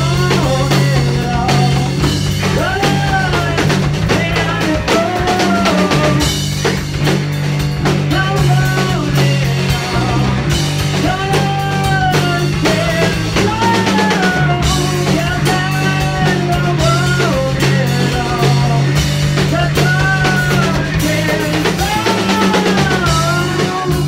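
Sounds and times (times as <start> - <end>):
person singing: 0.0 - 6.4, 7.8 - 24.0
bass guitar: 0.0 - 24.0
drum kit: 0.0 - 24.0
electric guitar: 0.0 - 24.0.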